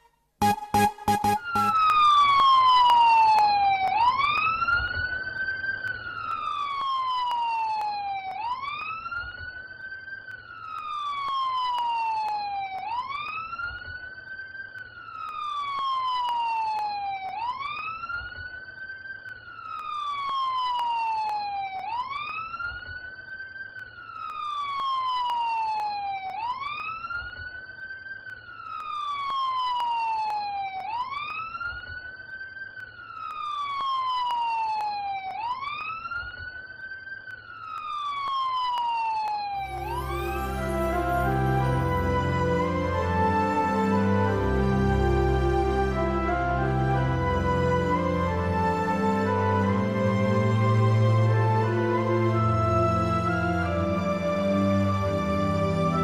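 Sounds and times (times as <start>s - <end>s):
emergency vehicle siren wailing: 0.0s - 56.0s.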